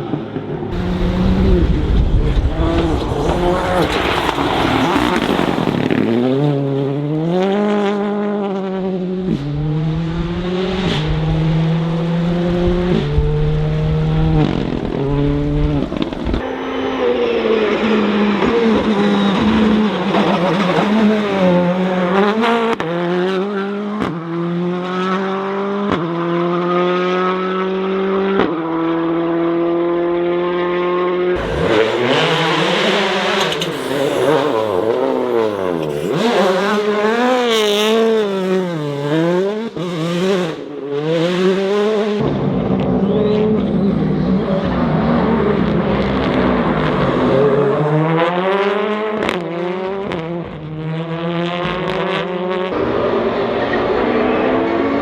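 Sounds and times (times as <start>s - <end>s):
car accelerating through gears: 0.1s - 55.0s
engine revving: 0.7s - 55.0s.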